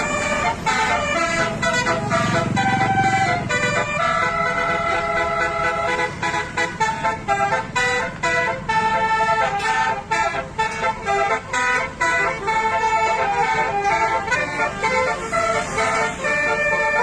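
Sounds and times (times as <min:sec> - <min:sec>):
musical air horn tune: 0:00.0 - 0:17.0.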